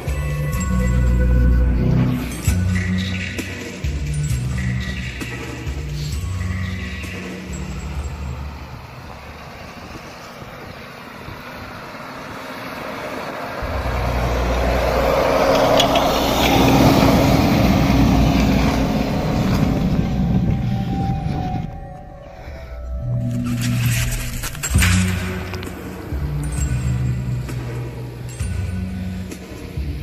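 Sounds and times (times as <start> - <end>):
suv engine pulling uphill: 0.0 - 30.0
tyres working through snow: 0.0 - 30.0.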